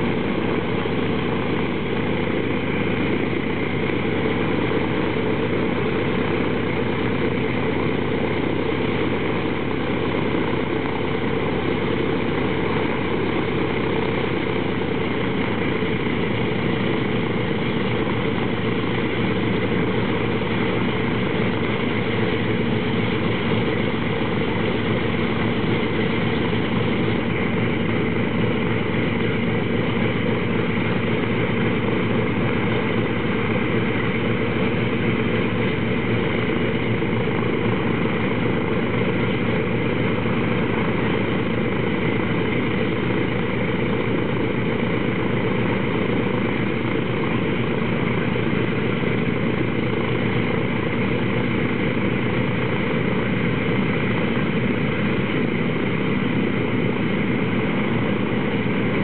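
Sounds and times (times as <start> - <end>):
radial piston engines running: 0.0 - 59.0.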